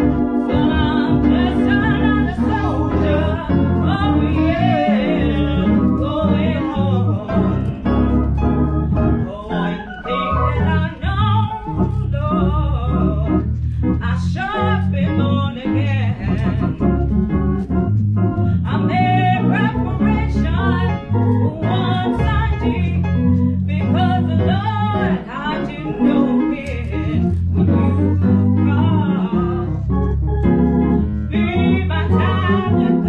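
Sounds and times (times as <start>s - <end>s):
organ bass notes: 0.0s - 33.0s
woman singing: 0.5s - 7.9s, 9.2s - 13.4s, 14.0s - 16.8s, 18.6s - 29.8s, 31.3s - 33.0s.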